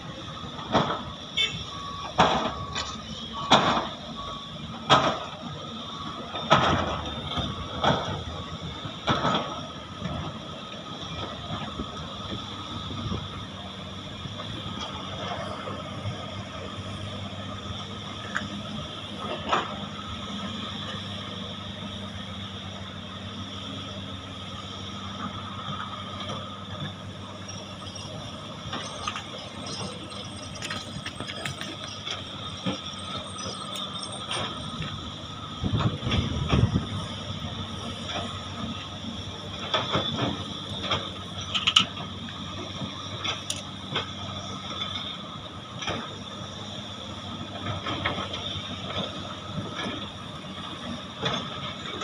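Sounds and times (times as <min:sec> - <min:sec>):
excavator diesel engines running: 0:00.0 - 0:52.0.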